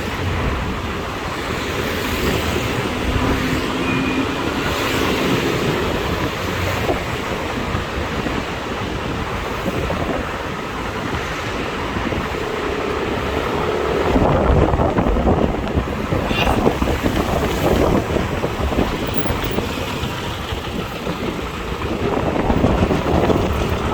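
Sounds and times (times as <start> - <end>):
road and traffic noise: 0.0 - 23.9
wind buffeting microphone: 0.0 - 23.9.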